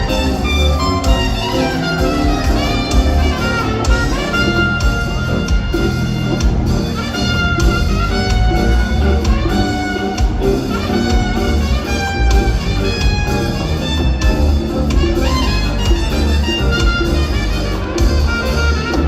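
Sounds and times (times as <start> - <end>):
band rhythm: 0.0 - 19.0
horn section trumpet and saxophone: 0.0 - 19.0.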